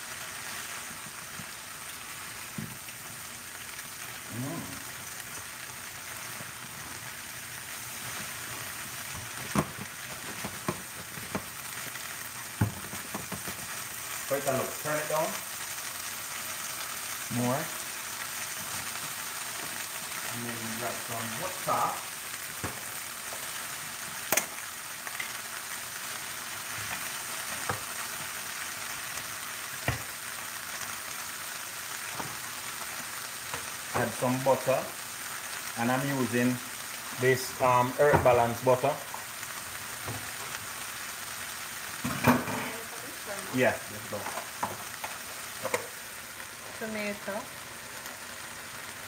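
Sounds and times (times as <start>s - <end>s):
food sizzling in a frying pan: 0.0s - 49.0s.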